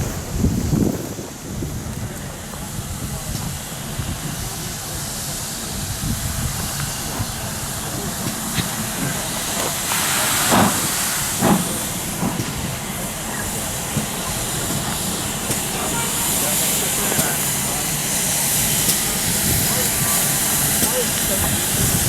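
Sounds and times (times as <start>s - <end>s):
bursts of steam: 0.0s - 22.0s
steam locomotive hissing: 0.0s - 22.0s.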